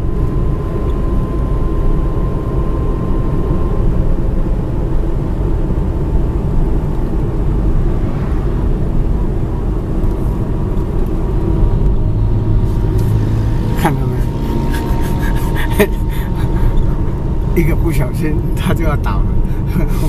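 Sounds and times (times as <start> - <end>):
car engine and tyre noise: 0.0 - 20.0.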